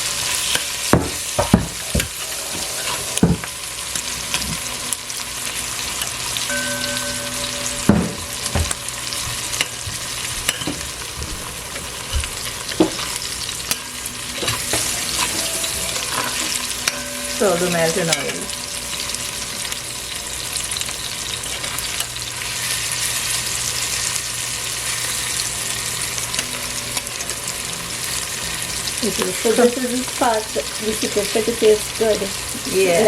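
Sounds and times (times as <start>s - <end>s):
vegetables sizzling in oil: 0.0s - 33.0s.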